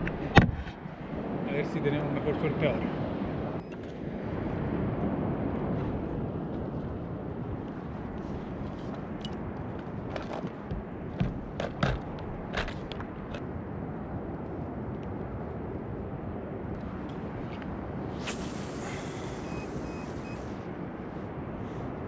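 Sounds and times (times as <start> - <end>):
wind and sea water rushing: 0.0 - 22.0.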